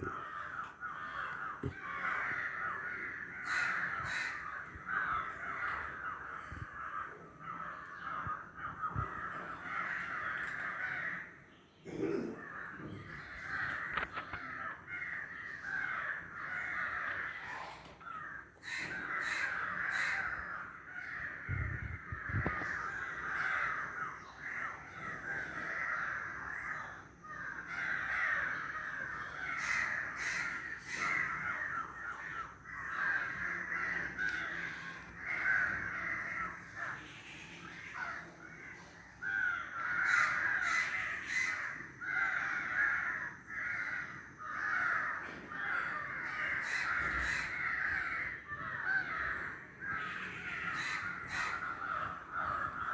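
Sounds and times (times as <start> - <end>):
chorus of animal calls: 0.0 - 52.9.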